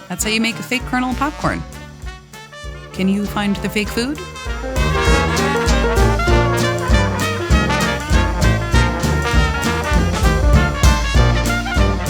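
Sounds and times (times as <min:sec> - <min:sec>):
upbeat swing music with brass: 0:00.0 - 0:12.0.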